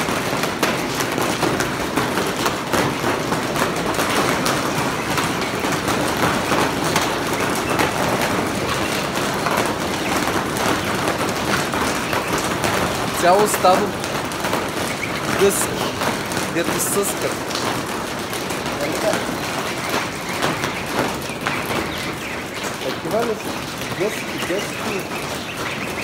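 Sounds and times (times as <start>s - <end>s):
rain and hail on greenhouse roof: 0.0s - 26.0s.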